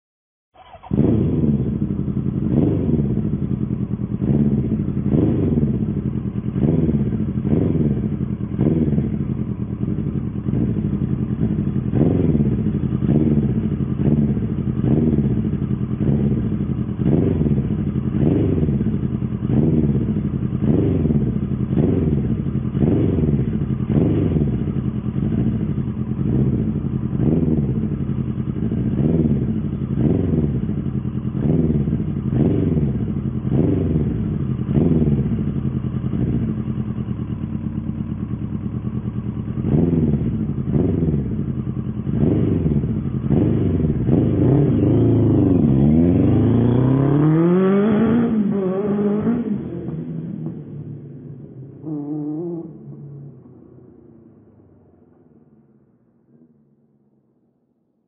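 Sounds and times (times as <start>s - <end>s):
motorcycle engine revving: 0.6s - 55.7s.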